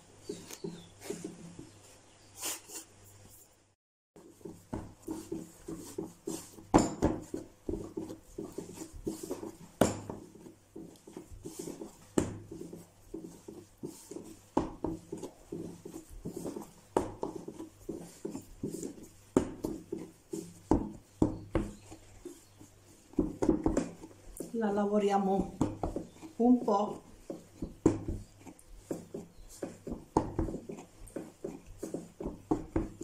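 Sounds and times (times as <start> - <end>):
dough rubbing and pressing: 0.0 - 33.0
dough thumping on wooden board: 4.2 - 33.0.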